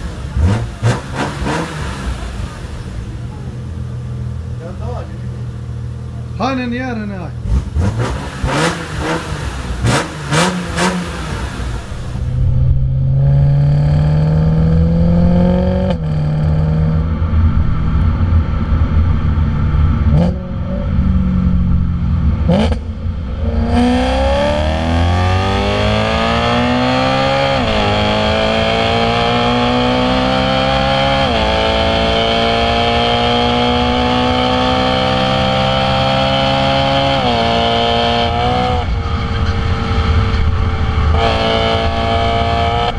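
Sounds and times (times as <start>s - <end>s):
car engine revving with cracks: 0.0s - 6.4s, 7.4s - 42.9s
car engine accelerating: 0.0s - 42.9s.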